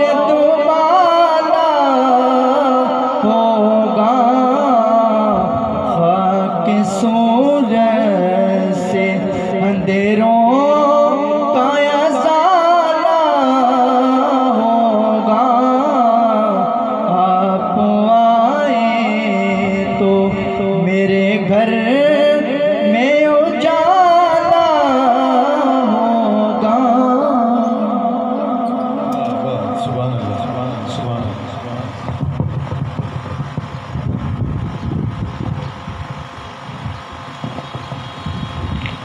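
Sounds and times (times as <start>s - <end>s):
man singing through microphone: 0.0s - 32.3s.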